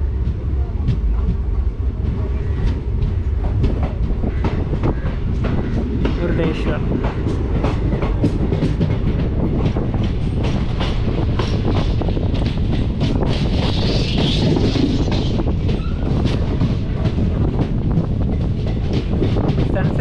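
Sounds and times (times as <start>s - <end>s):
train coaches rumbling: 0.0s - 20.0s.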